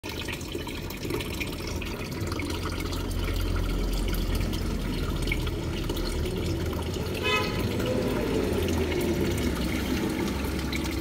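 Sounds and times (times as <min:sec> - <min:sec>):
low pump hum: 0:00.0 - 0:11.0
water trickling and bubbling: 0:00.0 - 0:11.0.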